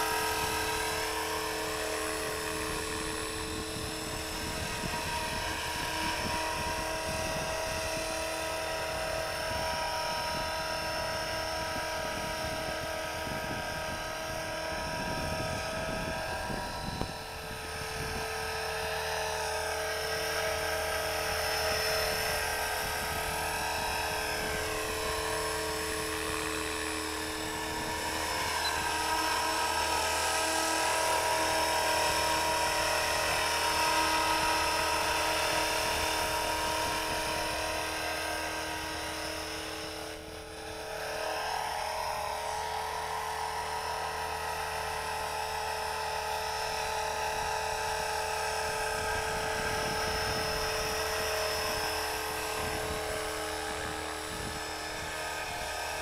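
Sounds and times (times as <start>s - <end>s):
rotorcraft motors whining: 0.0s - 56.0s.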